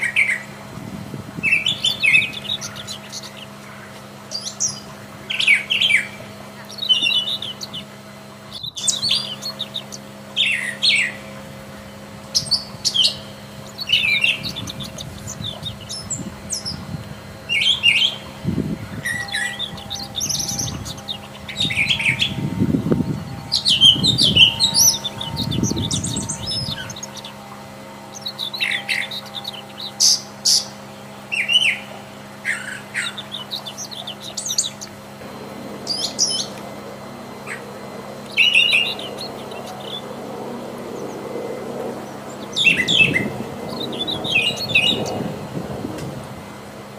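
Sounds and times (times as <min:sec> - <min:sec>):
thrasher singing: 0:00.0 - 0:46.9.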